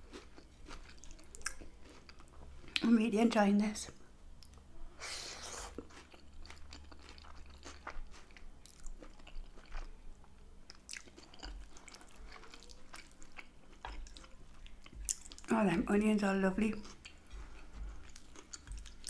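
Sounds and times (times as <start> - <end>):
person chewing food: 0.0 - 2.8, 3.9 - 15.5, 16.8 - 19.0.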